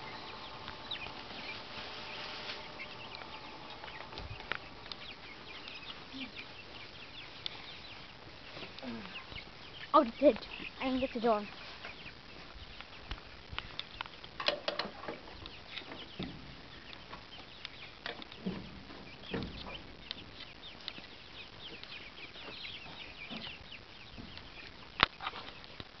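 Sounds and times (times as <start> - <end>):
baby chicks peeping: 0.0 - 26.0.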